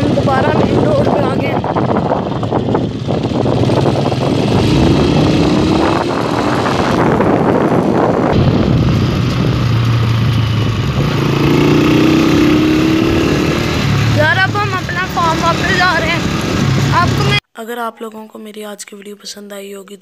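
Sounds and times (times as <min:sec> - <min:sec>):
motorcycle engine running: 0:00.0 - 0:17.4
rushing noise: 0:00.7 - 0:17.4.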